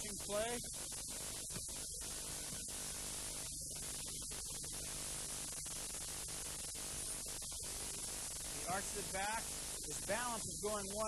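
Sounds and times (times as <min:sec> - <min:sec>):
low mains hum: 0:00.0 - 0:11.0
tape hiss: 0:00.0 - 0:11.0.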